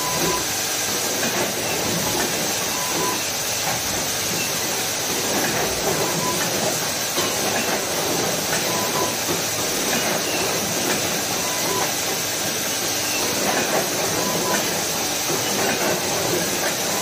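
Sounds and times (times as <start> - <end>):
machine hissing and rattling: 0.0 - 17.0.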